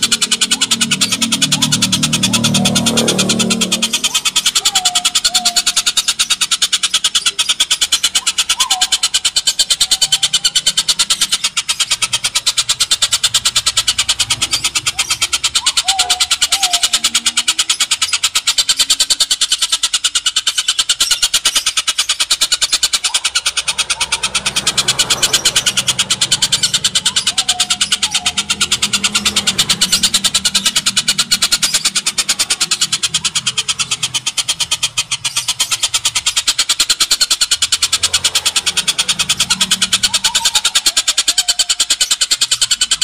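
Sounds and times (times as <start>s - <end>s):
bird harsh cackling chatter: 0.0s - 43.0s.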